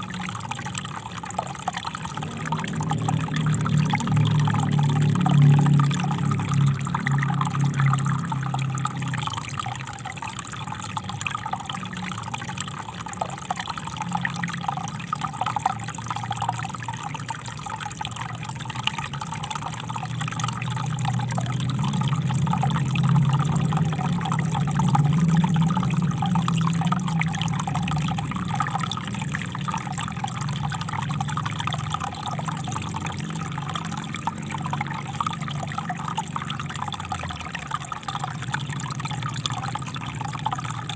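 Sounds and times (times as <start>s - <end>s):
river water trickling over stones: 0.0s - 40.9s.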